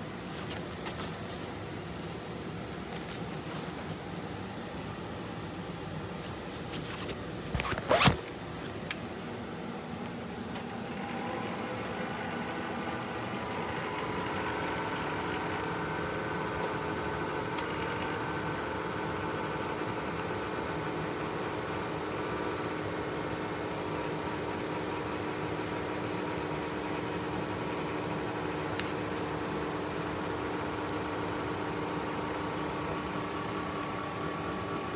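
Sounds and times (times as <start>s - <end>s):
clothes dryer humming: 0.0s - 34.9s.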